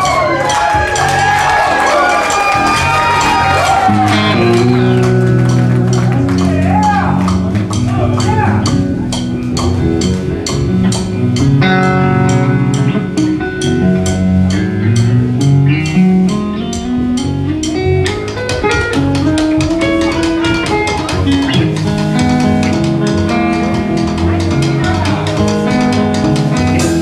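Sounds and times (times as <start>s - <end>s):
electric guitar lead: 0.0s - 27.0s
live rock band playing: 0.0s - 27.0s.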